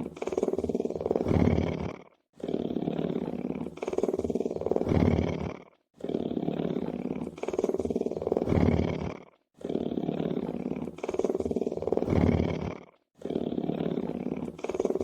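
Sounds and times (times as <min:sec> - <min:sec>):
lion purring: 0:00.0 - 0:15.0.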